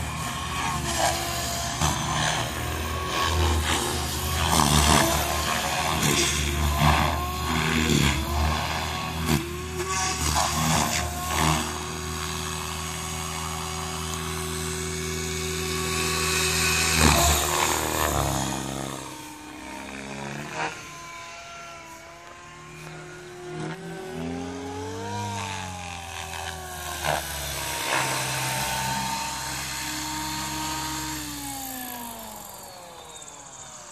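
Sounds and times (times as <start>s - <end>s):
model helicopter rotor and motor whine: 0.0s - 33.9s.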